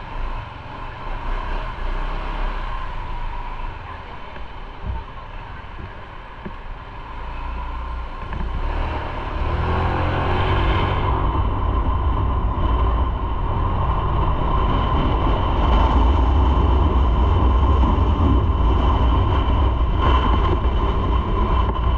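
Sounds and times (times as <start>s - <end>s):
road and wind noise: 0.0s - 21.9s.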